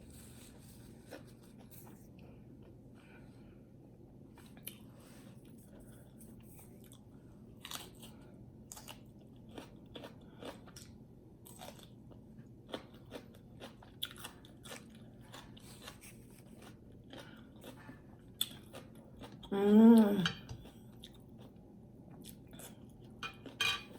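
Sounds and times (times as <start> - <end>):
faint room hum: 0.0 - 23.9
chewing and crunching food: 0.1 - 2.8, 4.3 - 23.9.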